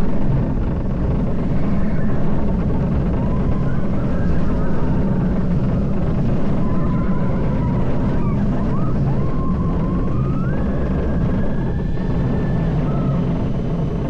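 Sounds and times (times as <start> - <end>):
faint rising whine: 0.0 - 14.0
roller coaster wheels rumbling on track: 0.0 - 14.0.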